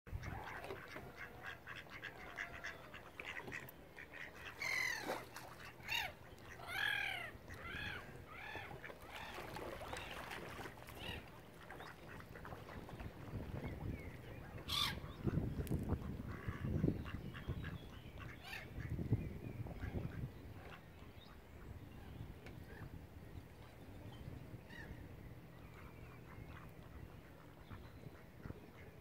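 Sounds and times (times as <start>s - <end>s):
waterbirds calling: 0.1s - 29.0s.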